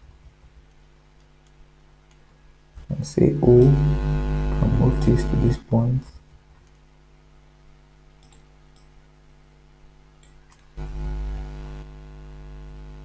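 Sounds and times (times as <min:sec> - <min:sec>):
low electrical buzz: 0:00.0 - 0:13.0.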